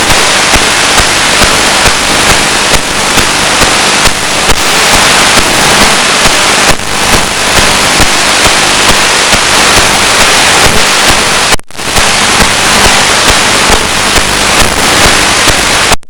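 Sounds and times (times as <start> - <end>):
steady hiss with crackles: 0.0 - 16.0.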